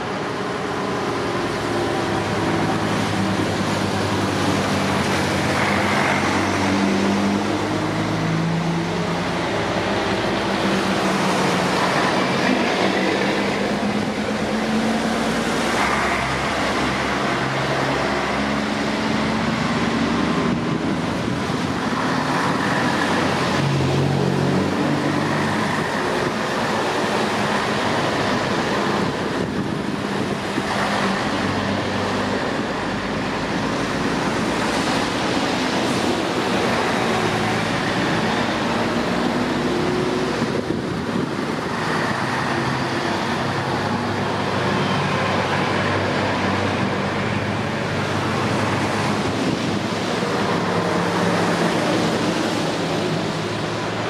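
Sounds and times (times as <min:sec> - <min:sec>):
diesel trucks driving past: 0:00.0 - 0:54.0.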